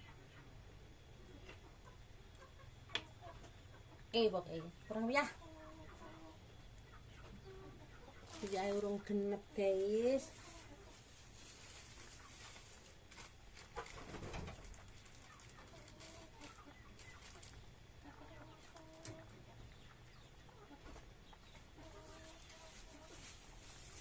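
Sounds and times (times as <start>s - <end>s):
faint chickens clucking: 0.0s - 24.0s.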